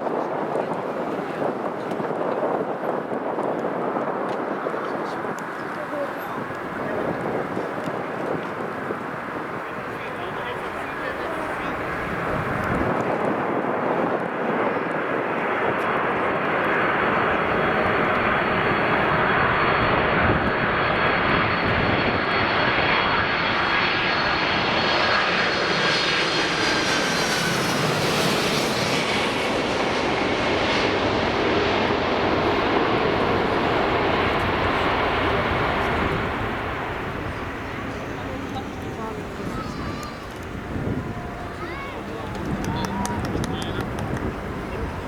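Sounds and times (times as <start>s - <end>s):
jet engines roaring: 0.2s - 45.0s.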